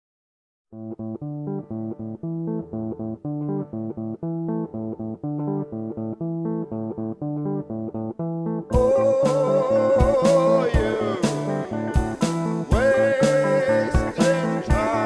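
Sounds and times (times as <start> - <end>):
bass: 0.8 - 15.0
plucked guitar notes: 0.8 - 15.0.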